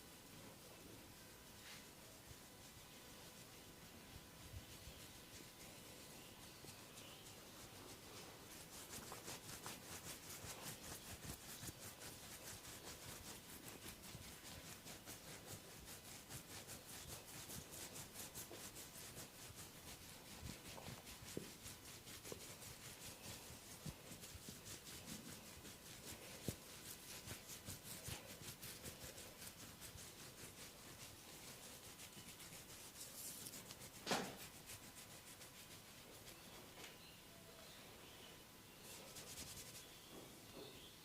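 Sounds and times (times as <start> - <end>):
rhythmic rubbing on hair: 0.0 - 36.9, 38.4 - 41.0.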